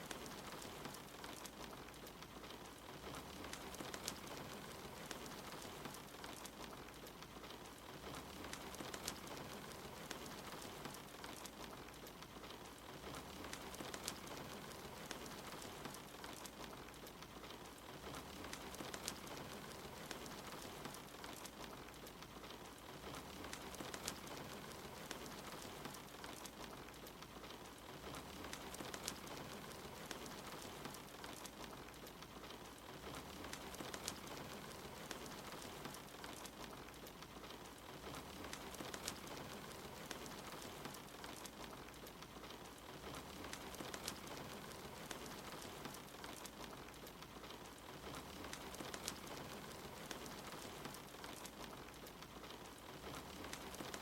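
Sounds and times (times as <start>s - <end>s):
rain hiss: 0.0s - 54.0s
wood fire crackling: 0.0s - 54.0s.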